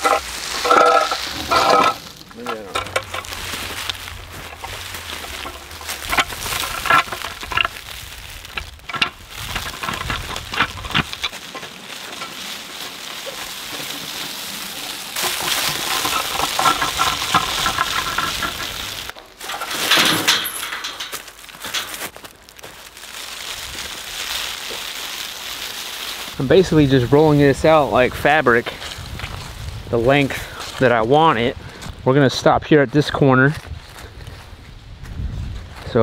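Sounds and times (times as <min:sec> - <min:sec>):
dry leaves crunching: 0:00.0 - 0:32.1, 0:33.0 - 0:36.0
footsteps on leaves: 0:00.0 - 0:32.1, 0:32.8 - 0:36.0.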